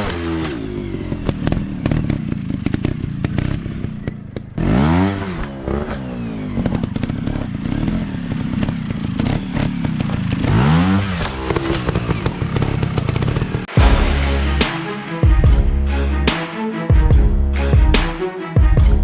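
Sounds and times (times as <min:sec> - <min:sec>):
dirt bike engine revving: 0:00.0 - 0:18.8.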